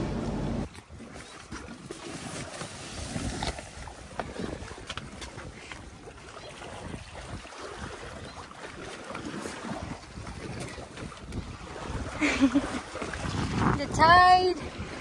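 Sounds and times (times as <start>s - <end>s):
wind buffeting microphone: 2.9s - 15.0s.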